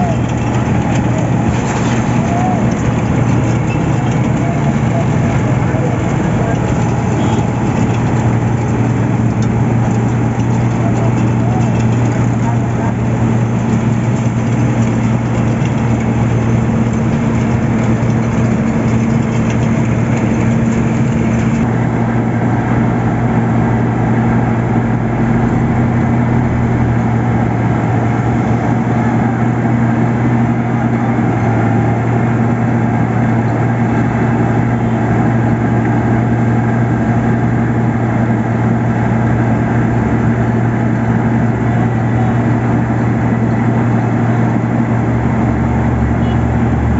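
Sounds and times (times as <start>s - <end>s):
heavy diesel engine humming: 0.0s - 46.9s.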